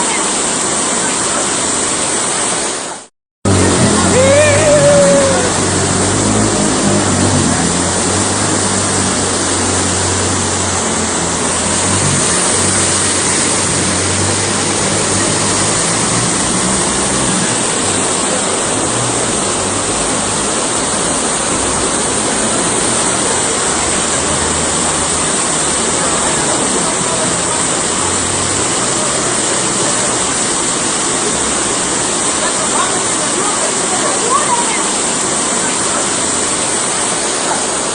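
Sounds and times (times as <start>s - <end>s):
heavy rain: 0.0s - 37.9s
rushing floodwater: 0.0s - 37.9s.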